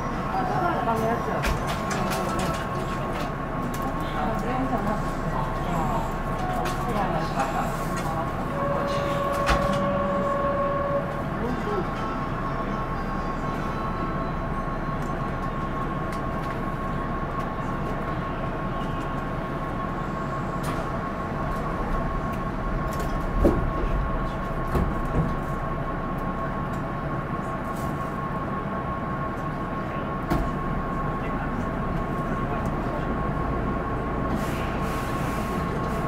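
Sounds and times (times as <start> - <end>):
electric train running hum: 0.0 - 36.0.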